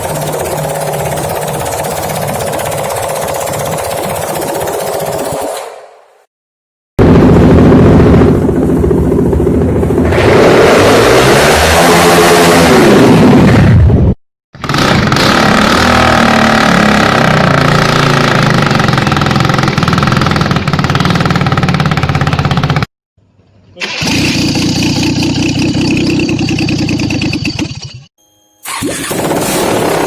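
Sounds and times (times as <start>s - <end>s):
buzzy petrol engine running: 0.0s - 5.6s, 7.0s - 11.5s, 14.6s - 22.9s, 23.9s - 30.0s
petrol engine revving: 0.0s - 5.6s, 7.0s - 13.8s, 14.6s - 22.8s, 23.8s - 27.9s, 28.6s - 30.0s.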